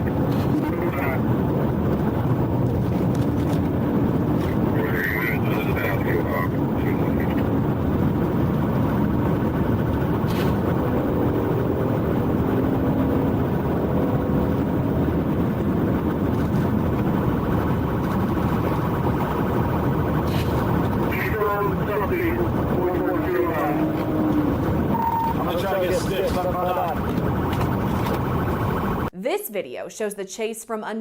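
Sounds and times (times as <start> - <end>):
vehicle engine and road noise: 0.0 - 29.1.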